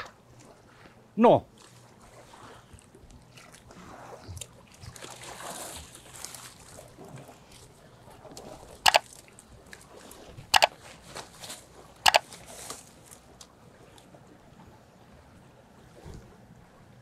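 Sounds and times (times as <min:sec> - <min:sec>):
small waves washing: 0:00.0 - 0:17.0.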